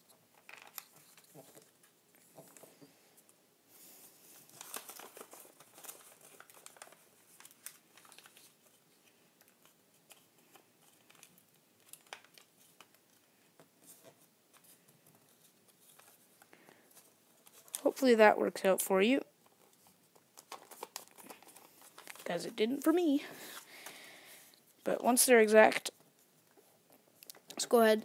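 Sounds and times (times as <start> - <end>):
paper rustling and crinkling: 0.0 - 2.9, 3.8 - 18.1, 19.4 - 25.1.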